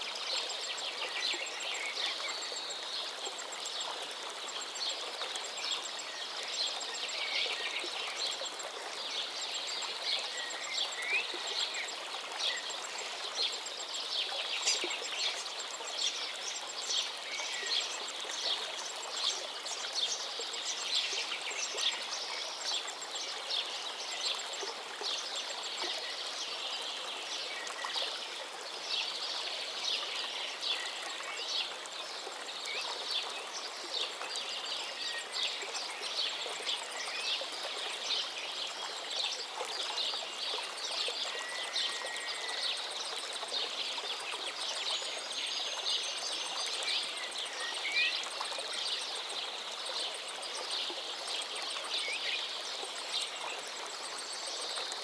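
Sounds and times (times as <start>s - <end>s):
steady outdoor hiss: 0.0s - 55.0s.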